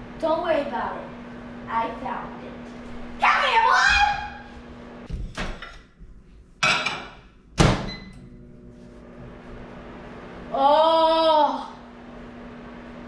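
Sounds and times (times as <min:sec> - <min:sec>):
microwave oven humming: 0:00.0 - 0:05.8, 0:06.6 - 0:13.0.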